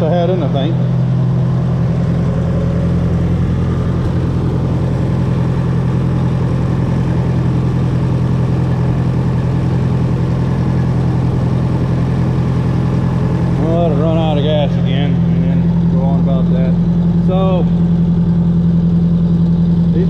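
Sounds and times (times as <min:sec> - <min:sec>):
tractor engine idling: 0:00.0 - 0:20.0.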